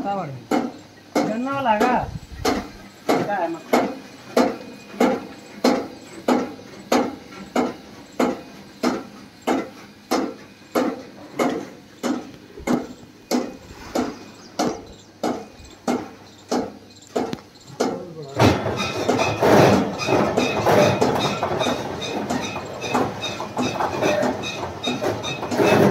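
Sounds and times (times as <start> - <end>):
sharp regular knock: 0.5 - 24.5
baler machine running: 1.6 - 13.7, 14.9 - 25.9.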